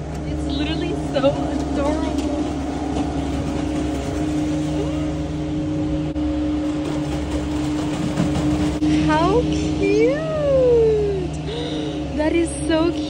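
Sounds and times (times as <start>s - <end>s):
truck diesel engine humming: 0.0s - 13.0s.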